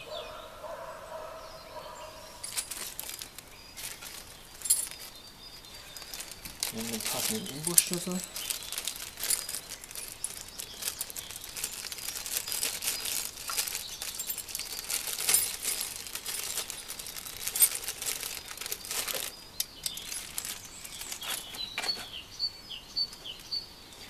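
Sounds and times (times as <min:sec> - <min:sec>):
plastic packet crinkling: 0:02.4 - 0:21.7.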